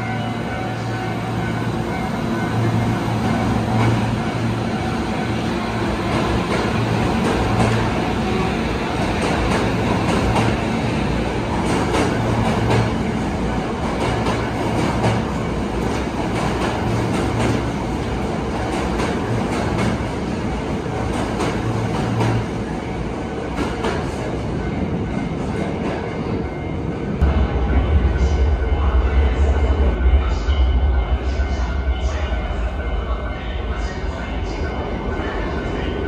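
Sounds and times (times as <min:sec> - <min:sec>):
electric train rumble: 0:00.0 - 0:36.0.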